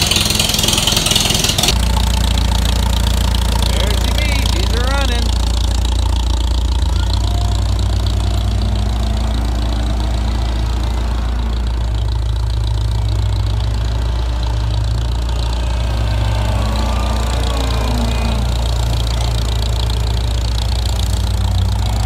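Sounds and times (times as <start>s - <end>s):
engine idling: 0.0s - 22.0s
faint engine note: 1.7s - 22.0s.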